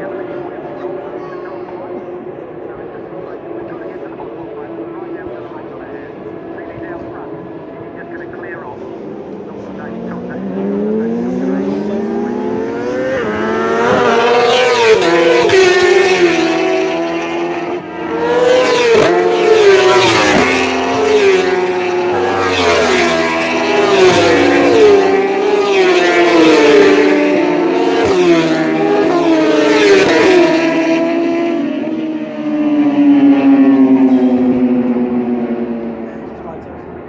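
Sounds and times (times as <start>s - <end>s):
racing motorcycles passing: 0.0s - 37.0s.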